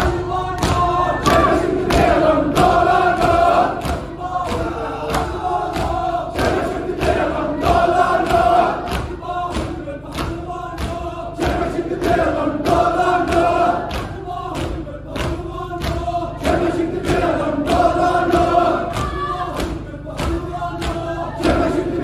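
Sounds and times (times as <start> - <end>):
crowd of men chanting: 0.0 - 22.0
rhythmic chest-beating slaps: 0.0 - 22.0.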